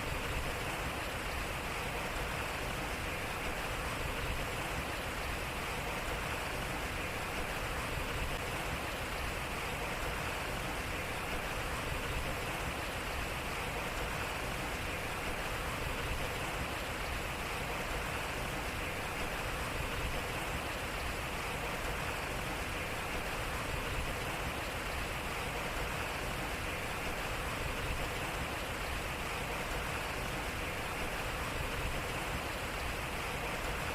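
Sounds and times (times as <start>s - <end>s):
water splashing at water wheel: 0.0s - 33.9s.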